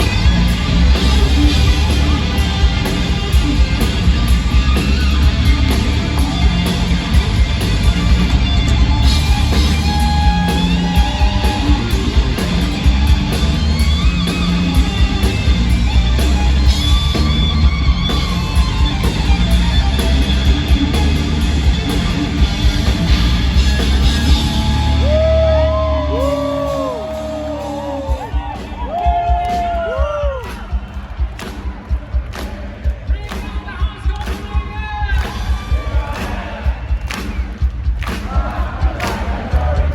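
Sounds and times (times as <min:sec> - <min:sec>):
bass guitar: 0:00.0 - 0:31.6, 0:37.1 - 0:39.9
heavy drums: 0:00.0 - 0:39.9.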